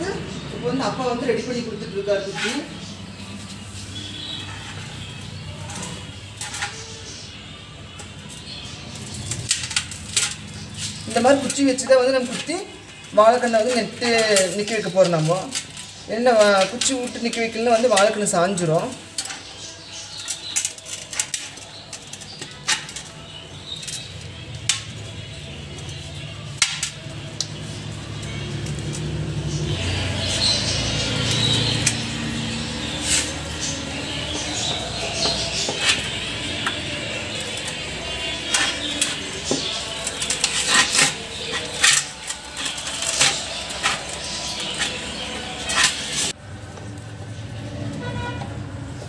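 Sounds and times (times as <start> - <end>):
wooden sticks tapping steel pot: 3.5 - 46.9.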